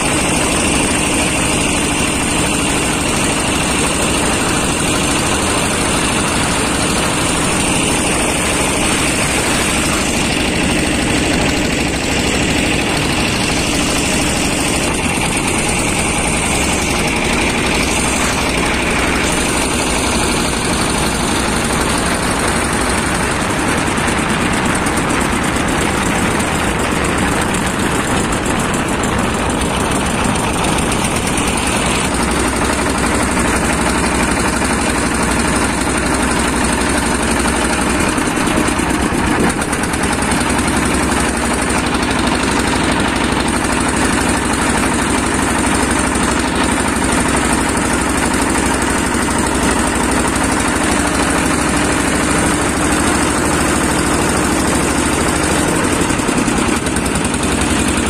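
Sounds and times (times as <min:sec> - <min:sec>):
boat engine droning: 0:00.0 - 0:58.0.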